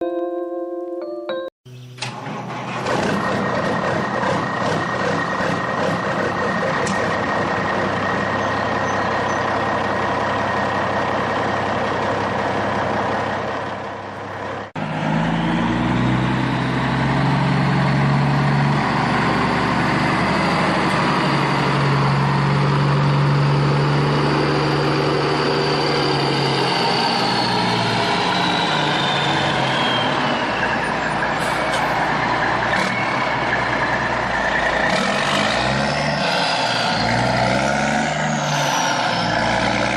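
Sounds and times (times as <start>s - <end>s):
deeper engine note: 1.7s - 39.9s
heavy truck engine running: 1.7s - 39.9s.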